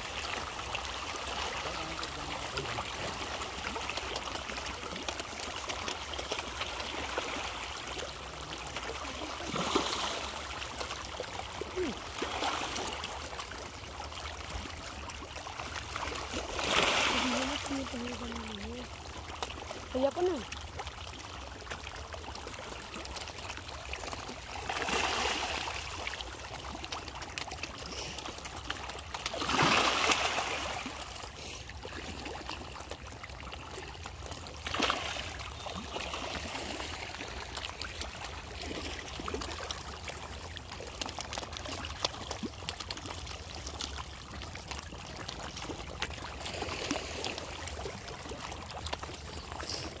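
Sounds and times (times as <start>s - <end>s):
fish thrashing and splashing water: 0.0s - 50.0s.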